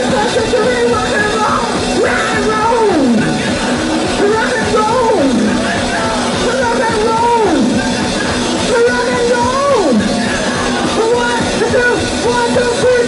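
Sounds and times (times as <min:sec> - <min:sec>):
rock band playing loudly: 0:00.0 - 0:13.0.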